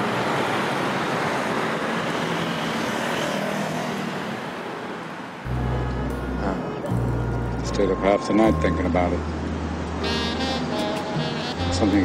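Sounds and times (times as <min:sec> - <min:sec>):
cars and vans driving past: 0:00.0 - 0:12.0.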